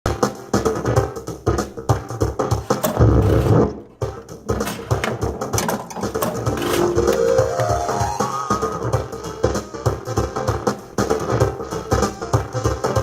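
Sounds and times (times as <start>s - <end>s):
distorted music with crackling: 0.1s - 13.0s.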